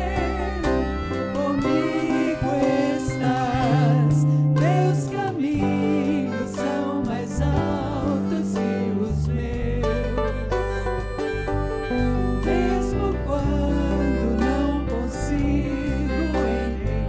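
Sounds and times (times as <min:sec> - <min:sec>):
band playing: 0:00.0 - 0:17.0
person singing with vibrato: 0:00.0 - 0:17.0.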